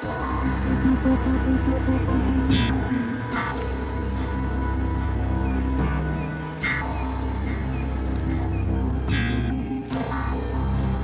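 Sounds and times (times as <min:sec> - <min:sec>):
low sustained background music: 0:00.0 - 0:11.0.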